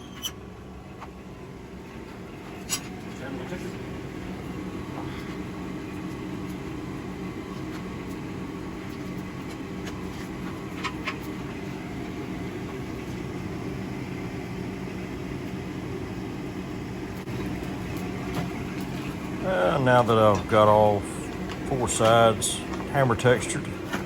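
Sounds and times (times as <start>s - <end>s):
forge blower droning: 0.0s - 24.0s.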